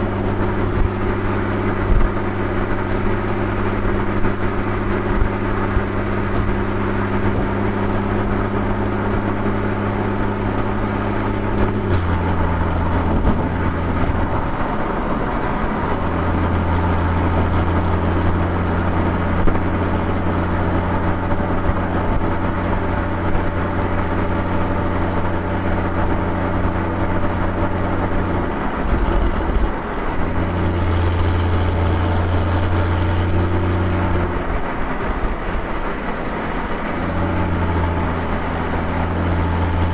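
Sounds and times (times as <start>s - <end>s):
car engine and exhaust: 0.0s - 39.9s
road noise: 0.0s - 39.9s.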